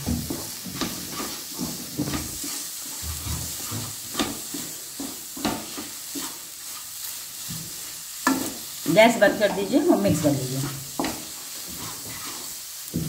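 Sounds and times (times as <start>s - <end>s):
faint sizzle: 0.0s - 13.0s
spatula scraping a pan: 0.0s - 13.0s.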